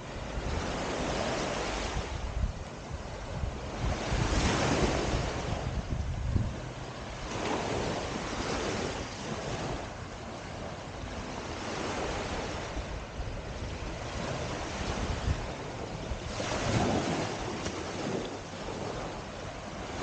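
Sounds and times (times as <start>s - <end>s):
small waves washing on sand: 0.0s - 20.0s
wind buffeting microphone: 0.0s - 20.0s.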